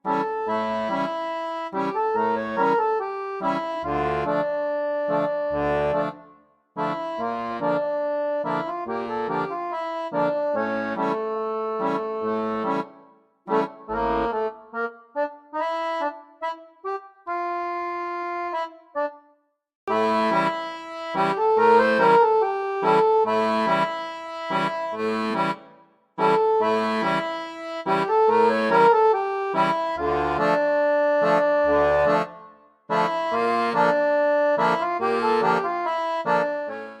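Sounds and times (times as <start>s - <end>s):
instrumental music with bass: 0.0s - 19.2s, 19.9s - 37.0s.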